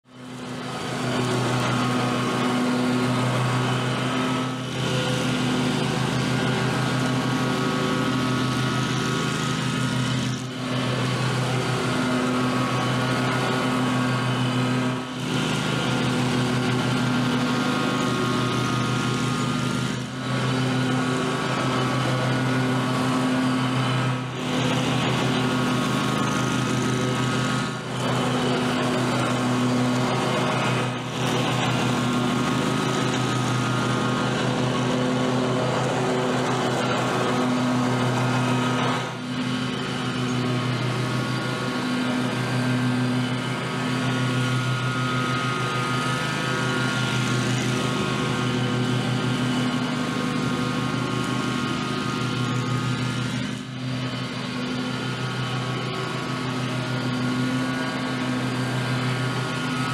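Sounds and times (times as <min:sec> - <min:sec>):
riding lawn mower engine hum: 0:00.0 - 0:59.9
mower blades hissing: 0:00.1 - 0:59.9.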